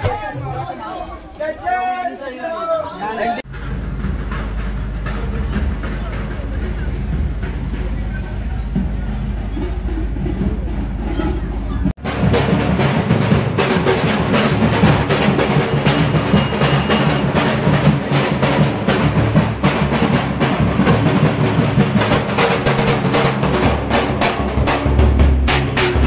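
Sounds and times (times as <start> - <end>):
bass drum: 3.4 - 26.0
procession drums beating: 3.4 - 26.0.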